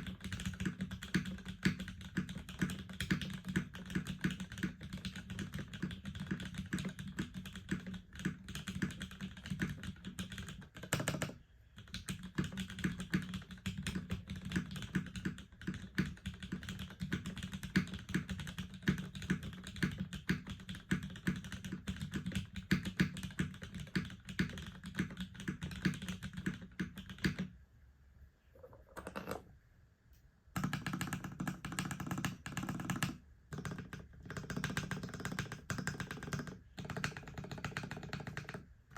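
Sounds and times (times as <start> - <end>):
fast mechanical keyboard typing: 0.0 - 27.5, 30.6 - 38.7.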